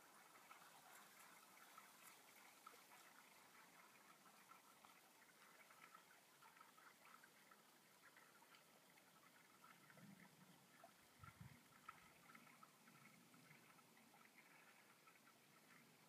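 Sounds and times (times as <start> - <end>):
faint flowing river water: 0.0 - 16.0
small crackling ticks: 0.0 - 16.0.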